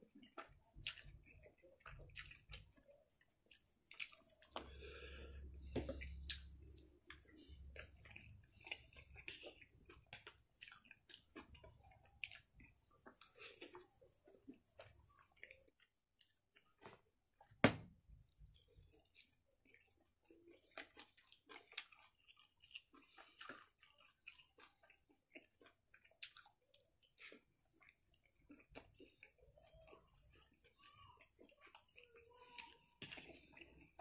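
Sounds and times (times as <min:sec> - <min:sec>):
wet chewing: 0:00.1 - 0:17.0, 0:18.2 - 0:34.0.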